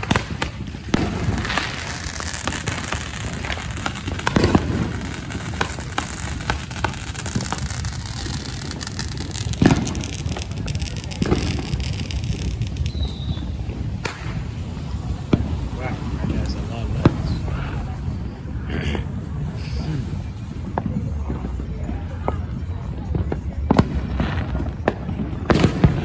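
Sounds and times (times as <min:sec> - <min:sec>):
fireworks bangs: 0:00.0 - 0:19.6, 0:20.3 - 0:26.0
fireworks crackling: 0:00.0 - 0:26.0.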